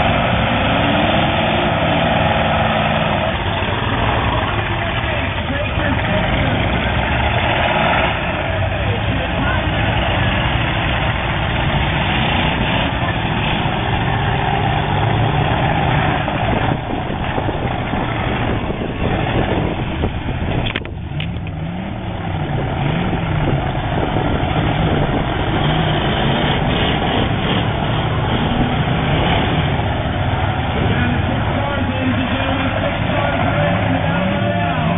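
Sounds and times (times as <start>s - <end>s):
car engines revving: 0.0s - 34.9s.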